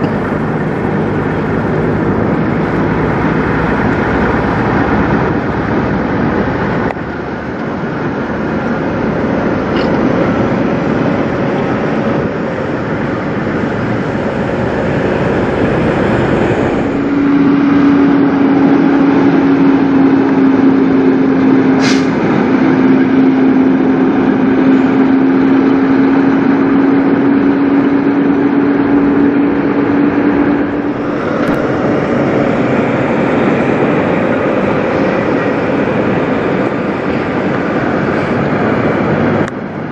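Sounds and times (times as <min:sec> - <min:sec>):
diesel truck engines passing: 0:00.0 - 0:39.9.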